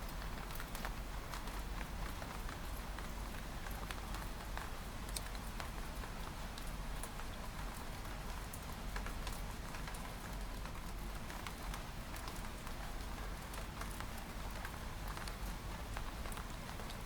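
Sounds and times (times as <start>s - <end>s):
rain on a window pane: 0.0s - 17.0s.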